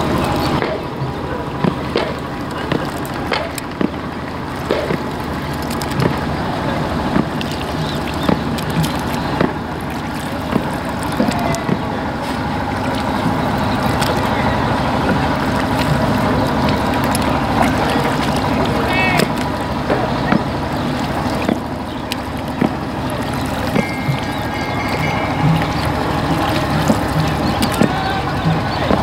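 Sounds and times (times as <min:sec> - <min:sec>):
oars knocking in wooden locks: 0:00.0 - 0:29.0
water rushing along a hull: 0:00.0 - 0:29.0.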